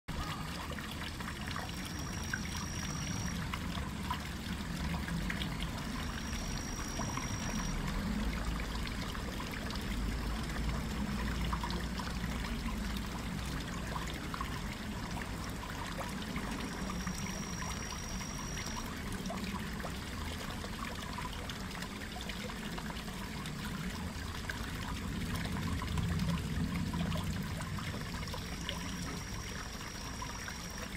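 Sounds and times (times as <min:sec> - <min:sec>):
water trickling into a pond: 0:00.1 - 0:30.9.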